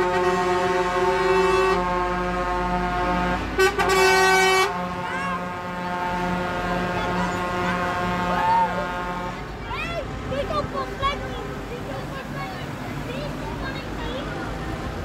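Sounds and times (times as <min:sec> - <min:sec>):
truck air horns blaring: 0:00.0 - 0:12.6.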